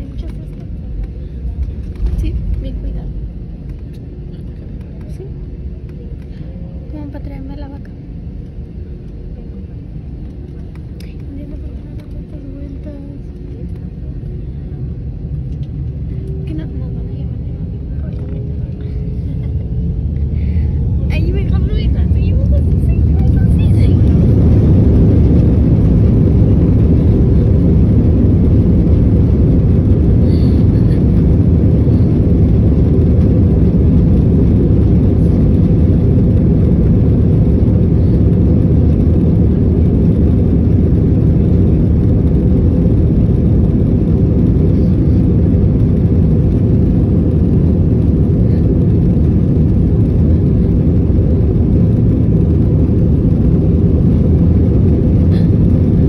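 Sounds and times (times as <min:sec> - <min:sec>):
jet airliner engine rumble: 0:00.0 - 0:56.0.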